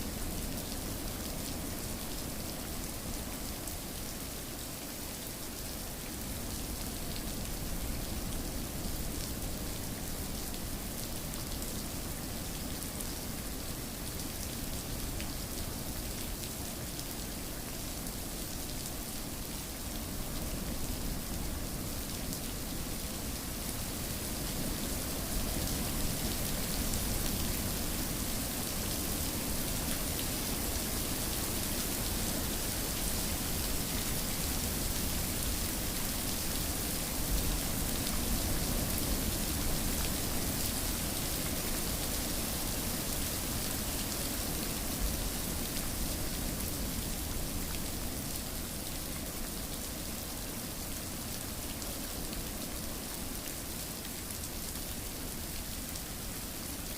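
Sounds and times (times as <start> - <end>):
rain pattering on surfaces: 0.0 - 56.9.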